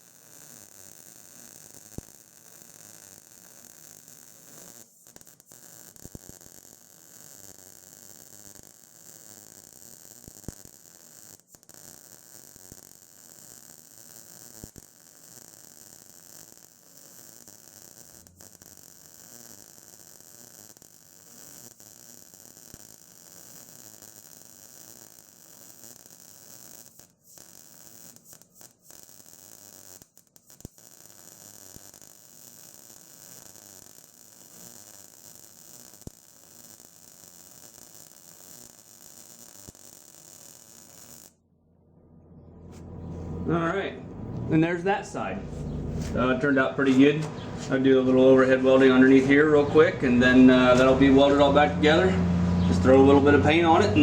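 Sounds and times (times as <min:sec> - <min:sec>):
welding arc crackling hiss: 0:00.0 - 0:41.4, 0:43.5 - 0:54.0.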